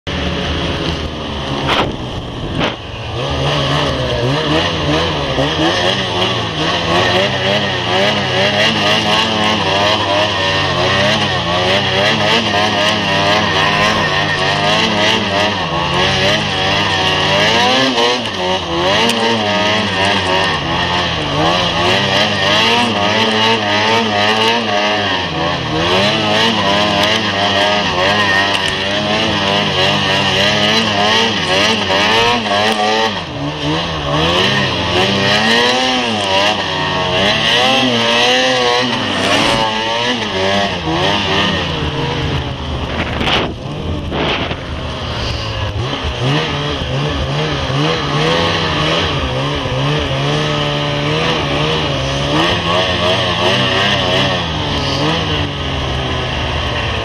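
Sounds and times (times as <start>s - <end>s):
snowmobile engine revving: 0.1s - 57.0s.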